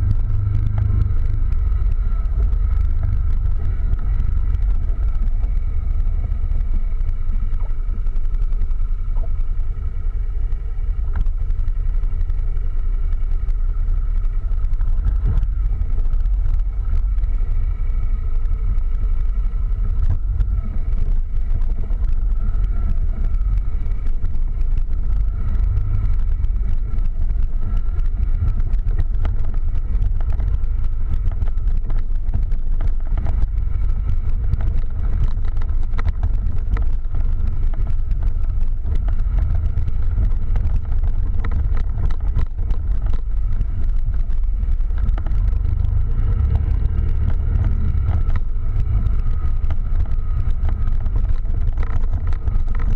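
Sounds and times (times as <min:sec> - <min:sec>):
quad bike engine running: 0:00.0 - 0:52.9.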